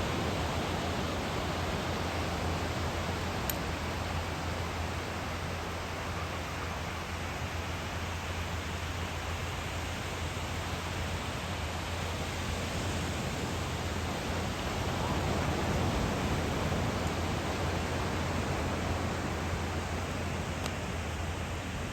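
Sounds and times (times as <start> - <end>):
wind: 0.0 - 21.9.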